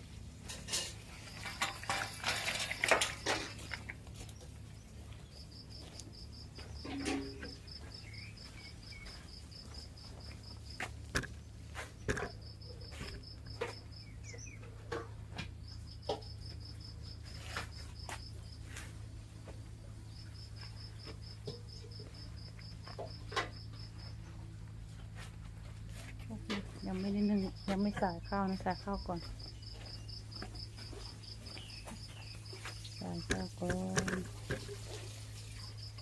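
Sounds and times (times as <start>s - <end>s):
cricket chirping: 0.5s - 36.0s.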